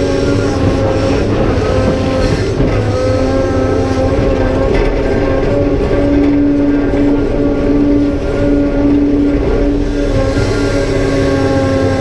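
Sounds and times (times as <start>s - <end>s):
excavator diesel engine droning: 0.0s - 12.0s
hydraulic pump whine: 0.0s - 12.0s.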